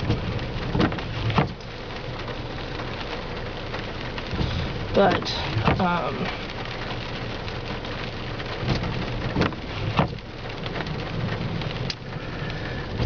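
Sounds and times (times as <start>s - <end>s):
rain pattering on car roof: 0.0s - 13.0s.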